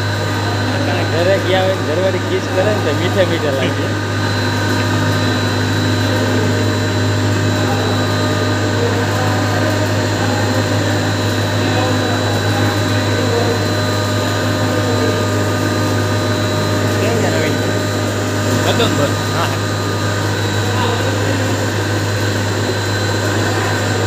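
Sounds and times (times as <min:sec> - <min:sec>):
sugar grinder running: 0:00.0 - 0:24.0.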